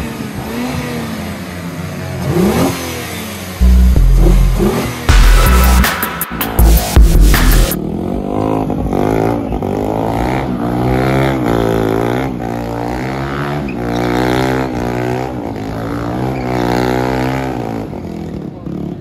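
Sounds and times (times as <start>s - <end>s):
engine revving: 2.1s - 17.8s.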